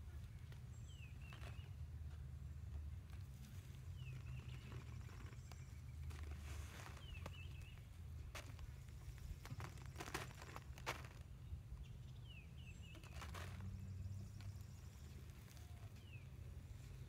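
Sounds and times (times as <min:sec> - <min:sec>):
hands rustling soil: 0:00.0 - 0:17.0.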